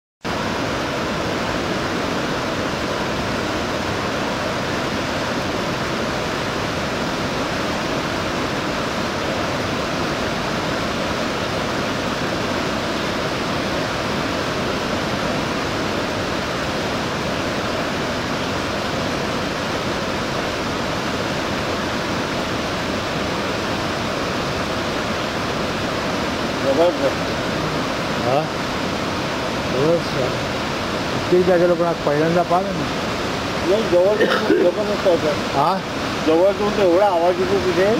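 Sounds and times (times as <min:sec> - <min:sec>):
waterfall rushing: 0:00.3 - 0:37.9.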